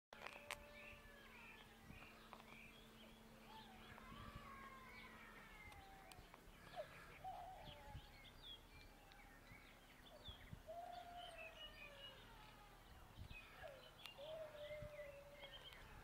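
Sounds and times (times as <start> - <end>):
bird singing: 0.2 - 16.0.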